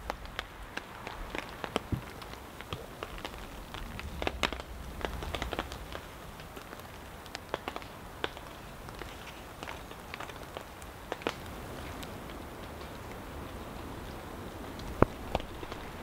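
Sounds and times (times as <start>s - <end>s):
raindrops hitting a tarp: 0.0s - 16.0s.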